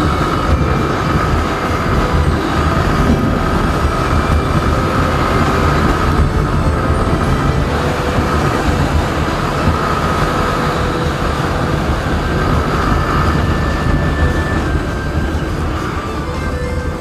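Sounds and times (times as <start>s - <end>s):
motorcycle engine drone: 0.0s - 17.0s
wind rushing over microphone: 0.0s - 17.0s.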